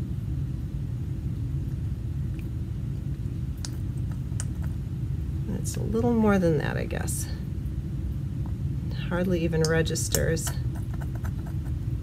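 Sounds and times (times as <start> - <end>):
room background rumble: 0.0 - 12.0.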